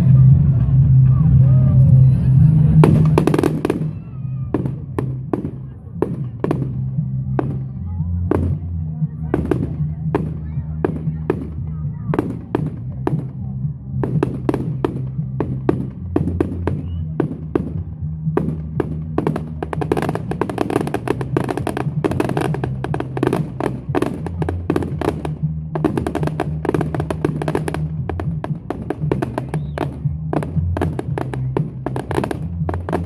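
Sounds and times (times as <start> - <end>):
music with low bass notes: 0.0 - 33.0
fireworks bursting and crackling: 2.7 - 8.7, 9.3 - 13.4, 14.0 - 33.0.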